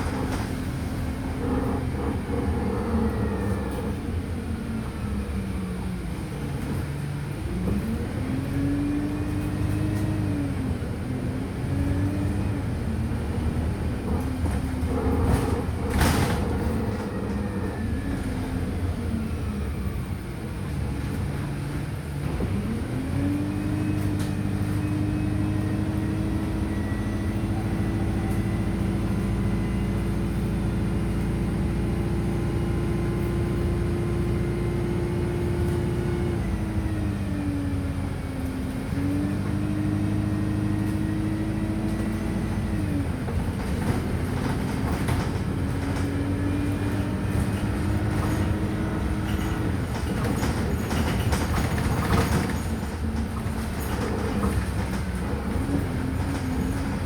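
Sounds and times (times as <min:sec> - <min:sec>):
bus engine: 0:00.0 - 0:57.0.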